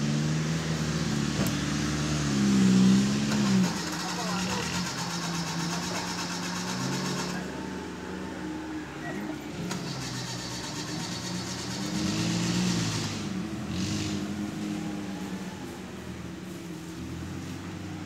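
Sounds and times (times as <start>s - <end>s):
engine labouring at low revs: 0.0s - 18.0s.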